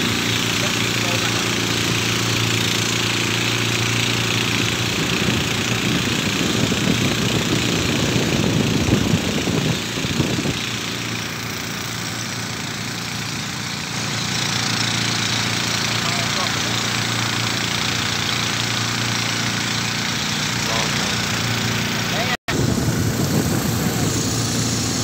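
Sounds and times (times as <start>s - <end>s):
motorboat engine running: 0.0s - 25.0s.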